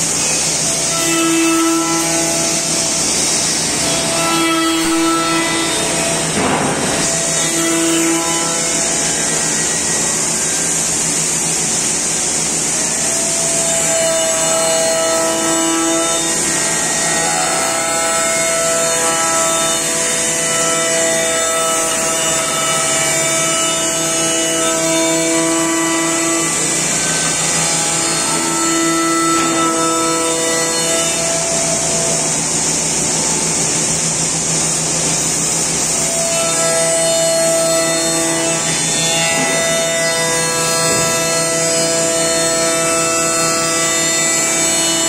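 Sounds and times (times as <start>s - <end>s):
machine spindle routing wood: 0.0s - 45.0s.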